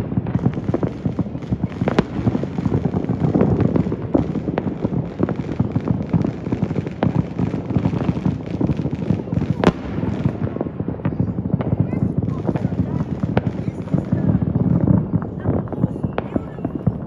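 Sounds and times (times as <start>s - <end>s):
distant fireworks crackling and booming: 0.0s - 17.0s.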